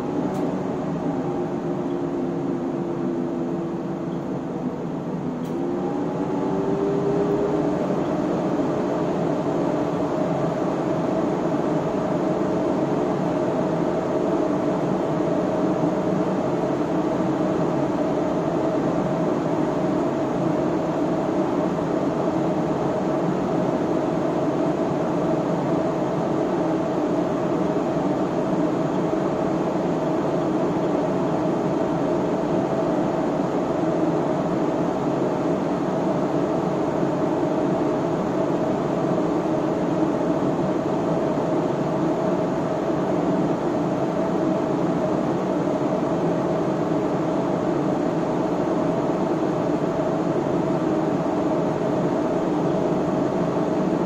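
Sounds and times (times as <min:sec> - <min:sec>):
cooling fans whirring: 0:00.0 - 0:54.0
electrical hum of steady tones: 0:00.0 - 0:54.0.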